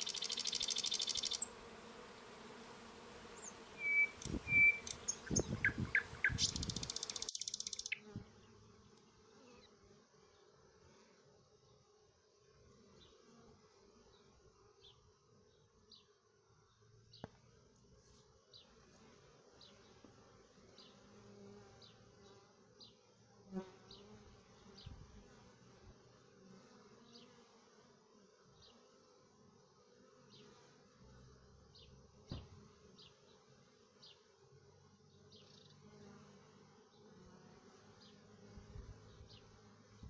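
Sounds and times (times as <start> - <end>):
honeybees buzzing: 0.0 - 16.0, 18.0 - 40.0.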